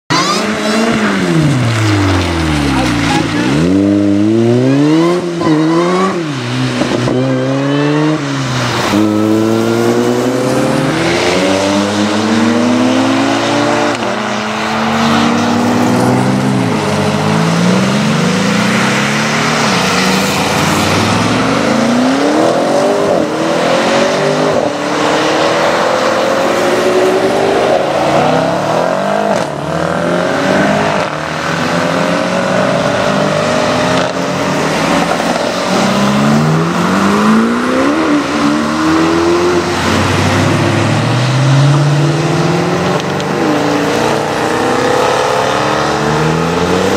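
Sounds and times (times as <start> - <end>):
sports cars accelerating hard: 0.1 - 46.9.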